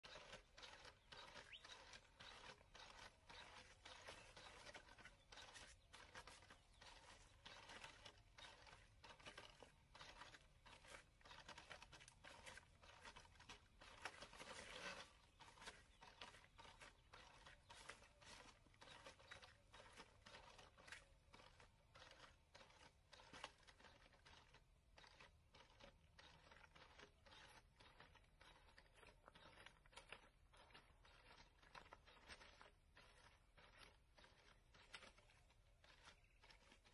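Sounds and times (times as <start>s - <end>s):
robot feet crunching on gravel: 0.0s - 36.9s.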